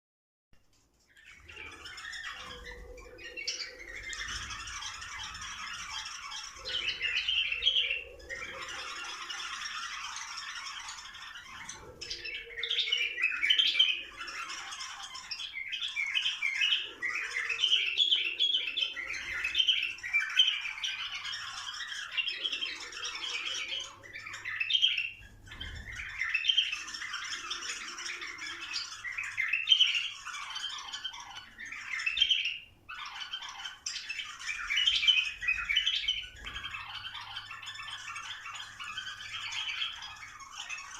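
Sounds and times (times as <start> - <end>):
birds singing and chattering: 0.6 - 40.9.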